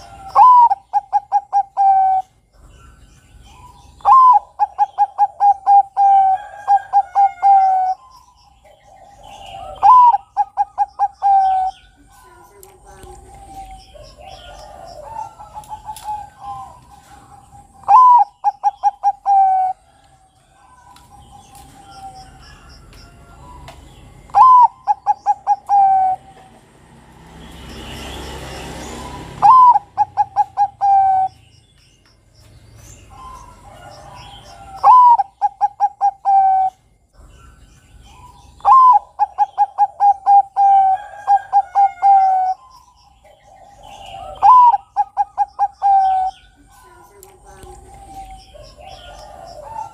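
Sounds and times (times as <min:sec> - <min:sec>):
dove cooing song: 0:00.0 - 0:31.5, 0:32.8 - 0:49.9.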